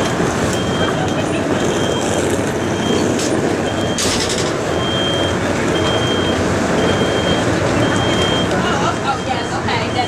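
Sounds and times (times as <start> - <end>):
train locomotive running: 0.0 - 10.0
high electronic beep: 1.6 - 10.0.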